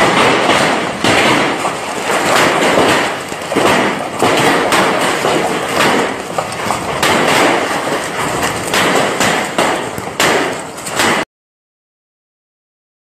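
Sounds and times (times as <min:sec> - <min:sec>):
torrential wind-driven rain: 0:00.0 - 0:11.2.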